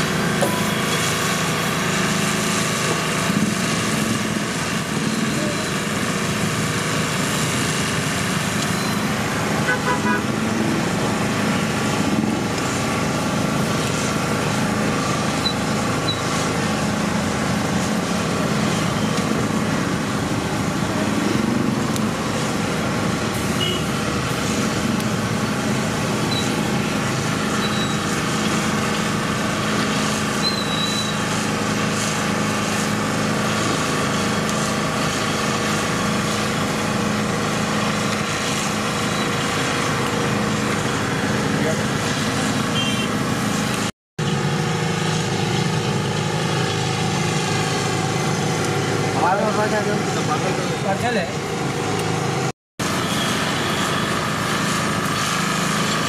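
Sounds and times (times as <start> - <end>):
engine humming nearby: 0.0 - 56.0
road traffic noise: 0.0 - 56.0.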